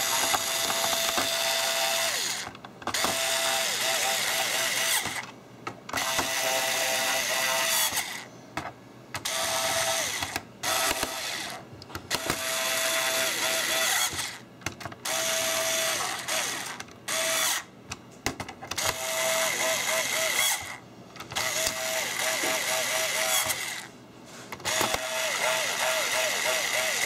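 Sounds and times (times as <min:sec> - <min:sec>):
cordless screwdriver motor whining: 0:00.0 - 0:05.2, 0:05.9 - 0:08.2, 0:09.2 - 0:14.4, 0:15.0 - 0:17.7, 0:18.8 - 0:20.8, 0:21.4 - 0:23.9, 0:24.6 - 0:27.0.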